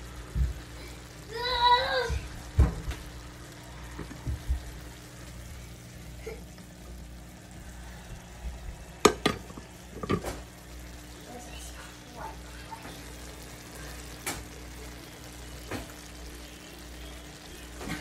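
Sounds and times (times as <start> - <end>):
simmering hiss of cooking: 0.0 - 18.0.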